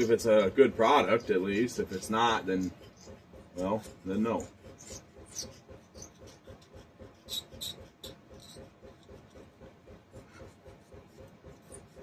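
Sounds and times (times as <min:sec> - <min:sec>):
hand scraper scraping gasket: 0:00.0 - 0:12.0.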